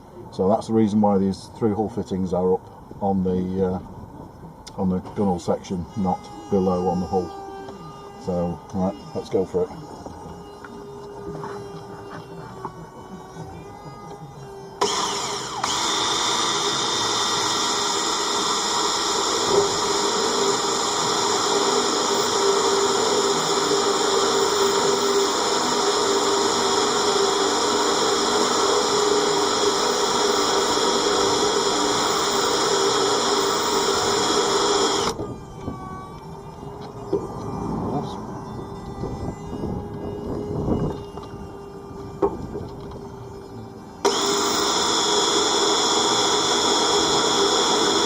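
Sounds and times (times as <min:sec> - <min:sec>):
electric drill boring through steel: 0:05.2 - 0:48.0.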